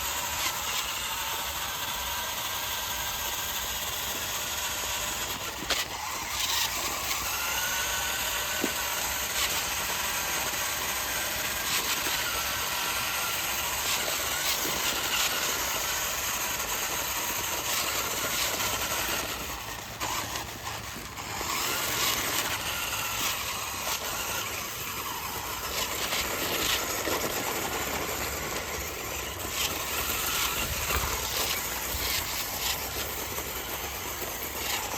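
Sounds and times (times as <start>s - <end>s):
toy truck motor whirring: 0.0s - 34.9s.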